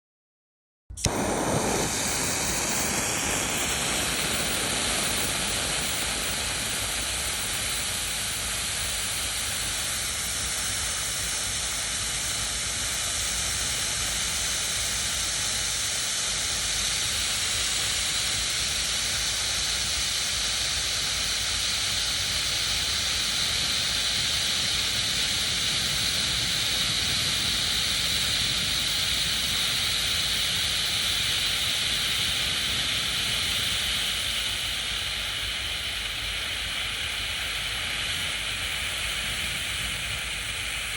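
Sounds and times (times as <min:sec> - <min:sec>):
flare burning with a hiss: 0:01.0 - 0:40.9.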